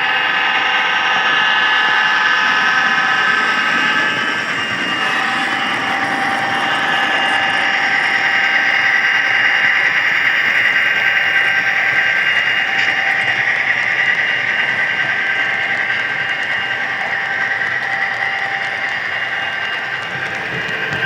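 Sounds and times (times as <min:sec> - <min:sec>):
model train running: 0:00.0 - 0:21.0
high whining tones: 0:00.1 - 0:21.0.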